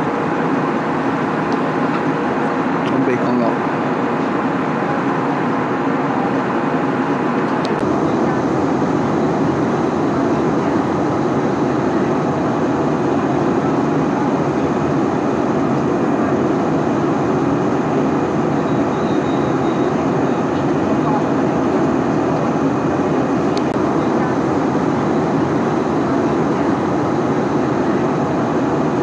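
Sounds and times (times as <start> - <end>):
airliner cabin engine noise: 0.0 - 29.0.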